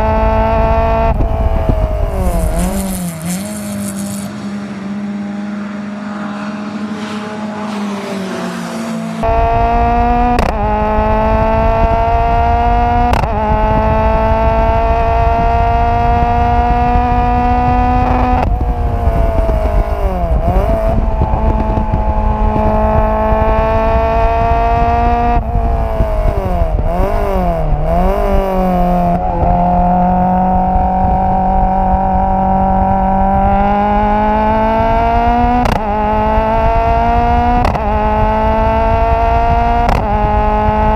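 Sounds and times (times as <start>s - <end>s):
race car engine at full throttle: 0.0s - 40.9s.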